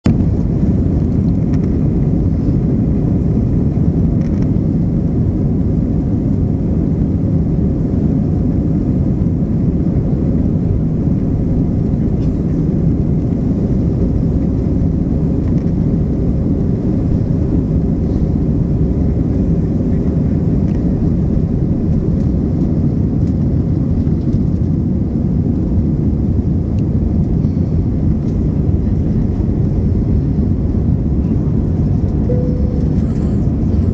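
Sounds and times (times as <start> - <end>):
jet engines rumbling: 0.0 - 33.9.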